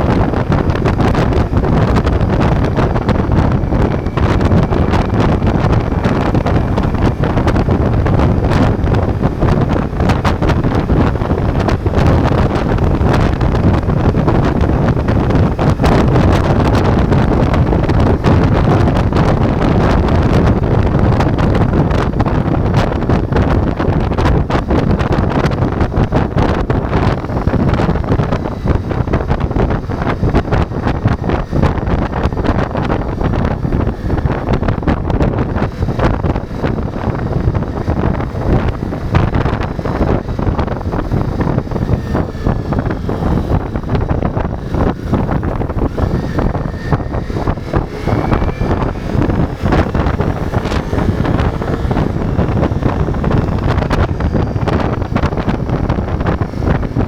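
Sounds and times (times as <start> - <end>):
motorcycle engine running: 0.0 - 57.0
wind buffeting on microphone: 0.0 - 57.0.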